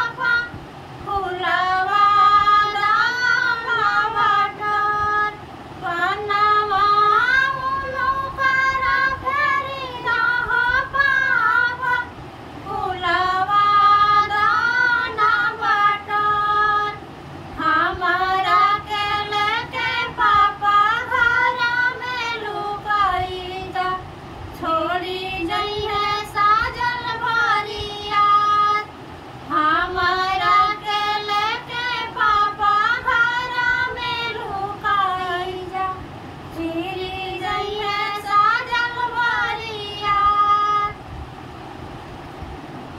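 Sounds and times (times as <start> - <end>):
women singing folk song: 0.0 - 41.1.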